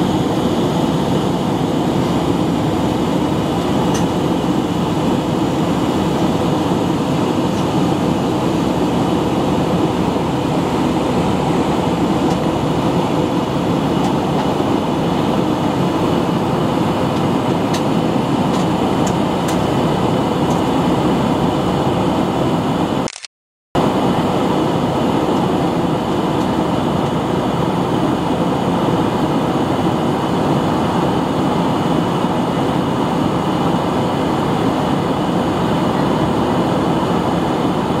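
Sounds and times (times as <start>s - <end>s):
jet engine roar in cabin: 0.0s - 38.0s.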